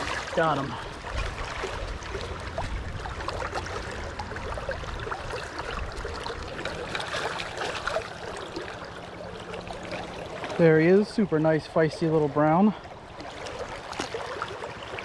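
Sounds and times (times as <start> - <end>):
river current running: 0.0 - 15.0
water splashes and trickles: 0.0 - 15.0.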